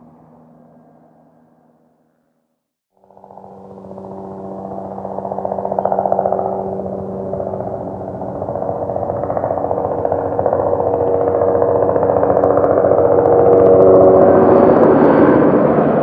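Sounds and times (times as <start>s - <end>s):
buzzing distorted drone: 3.0s - 16.0s.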